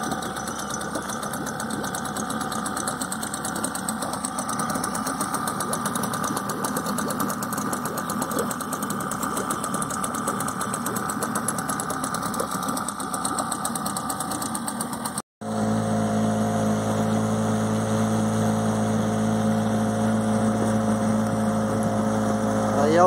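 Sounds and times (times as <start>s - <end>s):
outboard motor running: 0.0s - 23.0s.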